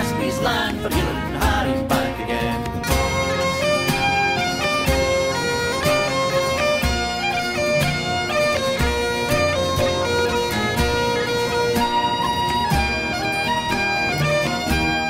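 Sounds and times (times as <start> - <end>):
bagpipes playing melody: 2.8 - 15.0.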